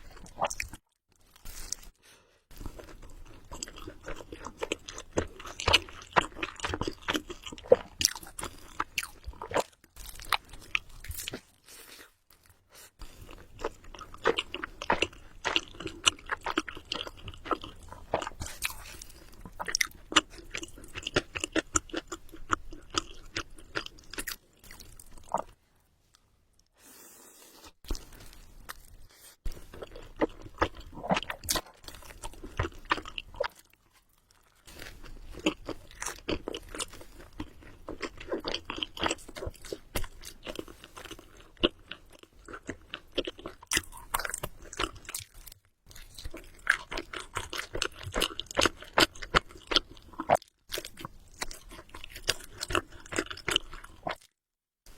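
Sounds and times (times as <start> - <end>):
person chewing noodles: 0.0 - 54.3.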